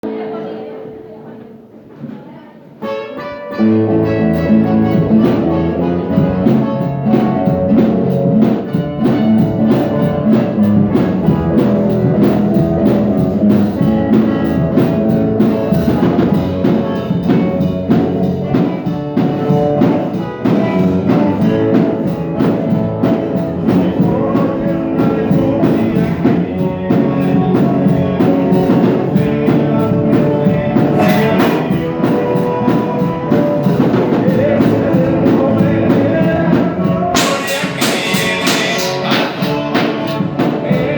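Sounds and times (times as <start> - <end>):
gospel band playing: 0.0 - 40.9
steady drum beat: 3.8 - 40.9.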